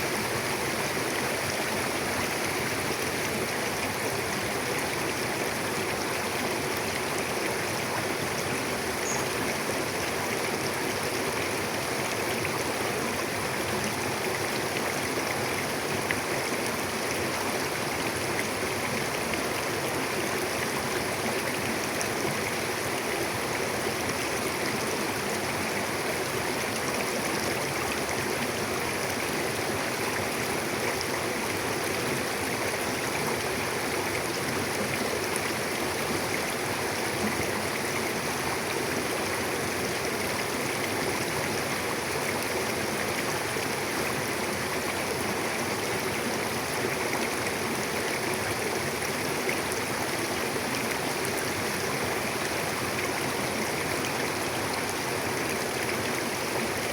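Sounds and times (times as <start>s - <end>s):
river flowing over rocks: 0.0s - 56.9s.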